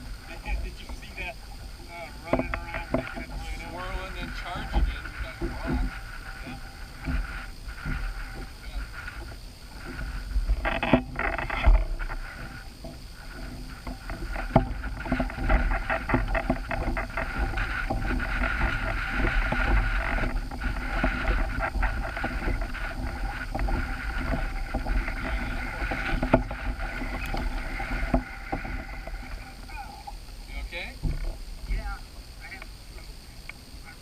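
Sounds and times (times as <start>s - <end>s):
water splashing and lapping: 0.0s - 33.0s.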